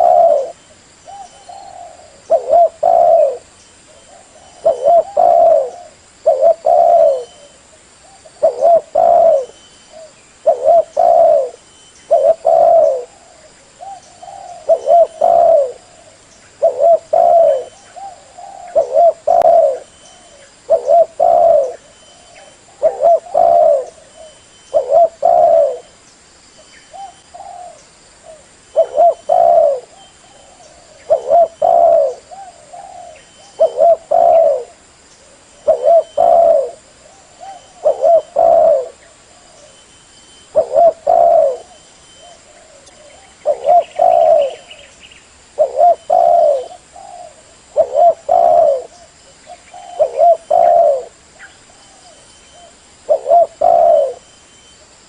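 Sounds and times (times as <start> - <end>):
dove cooing: 0.0 - 26.0, 26.9 - 39.8, 40.4 - 54.8.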